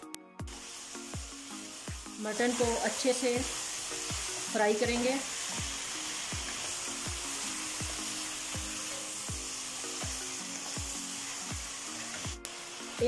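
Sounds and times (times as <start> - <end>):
background music with beat: 0.0 - 13.0
meat sizzling in hot oil: 0.4 - 13.0.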